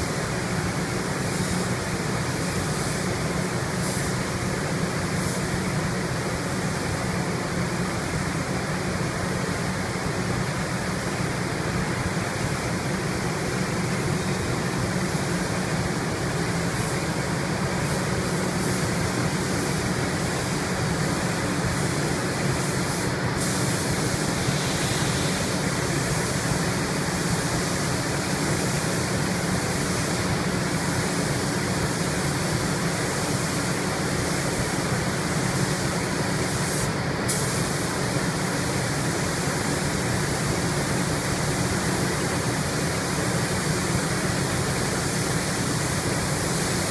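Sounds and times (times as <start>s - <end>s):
paint spray gun hissing: 0.0s - 46.9s.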